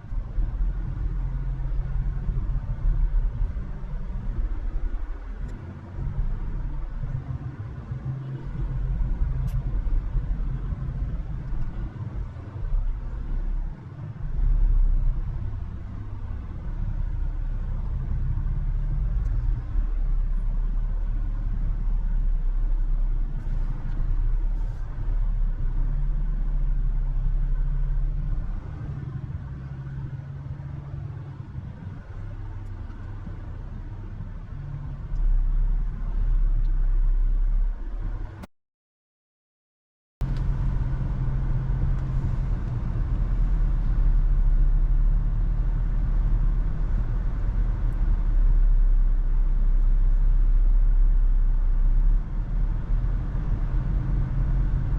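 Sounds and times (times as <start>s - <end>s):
vehicle driving rumble: 0.0s - 38.5s, 40.2s - 54.9s.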